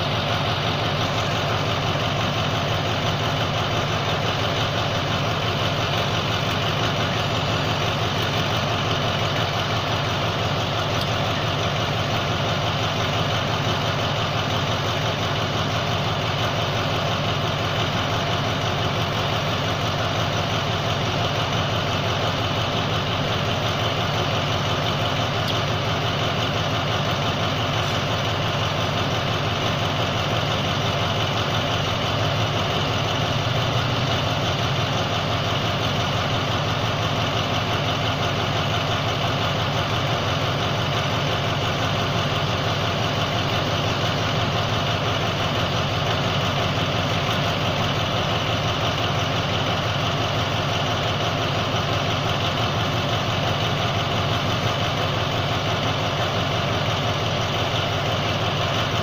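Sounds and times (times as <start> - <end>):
locomotive engine idling: 0.0 - 59.0.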